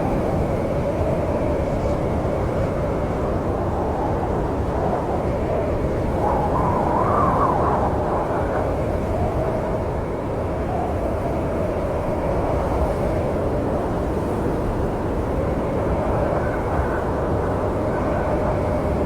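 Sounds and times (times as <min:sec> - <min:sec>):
howling storm wind: 0:00.0 - 0:19.0.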